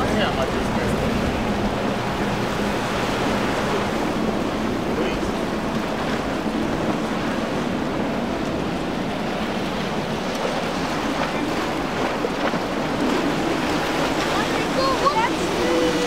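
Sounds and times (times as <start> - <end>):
boat engines droning: 0.0 - 16.0
boat wake and spray hissing: 0.0 - 16.0
surf rushing: 0.0 - 16.0
wind buffeting microphone: 0.0 - 16.0.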